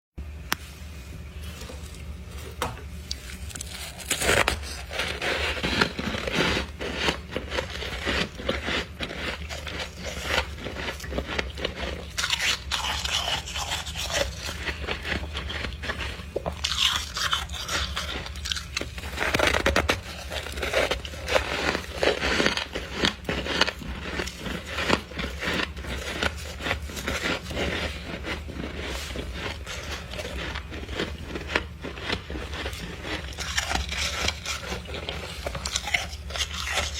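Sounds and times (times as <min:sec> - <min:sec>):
low steady hum: 0:00.2 - 0:36.9
person chewing crunchy frost: 0:01.2 - 0:36.9.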